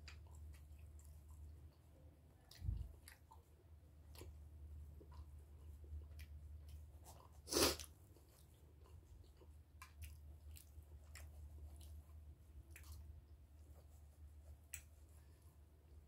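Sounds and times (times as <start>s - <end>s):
quiet chewing: 0.0s - 16.0s.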